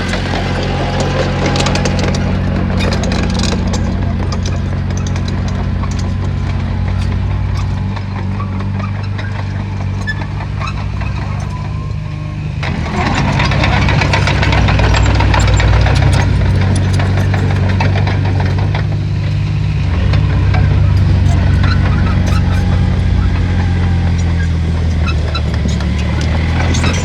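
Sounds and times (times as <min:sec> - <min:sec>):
heavy diesel engine running: 0:00.0 - 0:27.0
metal clanks and rattles: 0:00.0 - 0:27.0.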